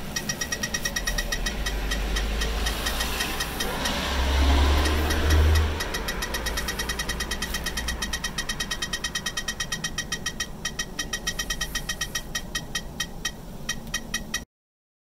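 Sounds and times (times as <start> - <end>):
radiation meter clicking: 0.0 - 14.5.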